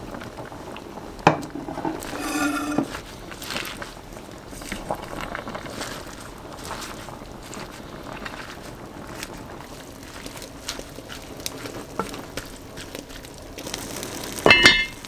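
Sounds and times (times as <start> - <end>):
steady background hiss: 0.0 - 15.0
spatula scraping pot: 1.6 - 3.8, 4.6 - 14.9
leaves rustling: 1.9 - 15.0.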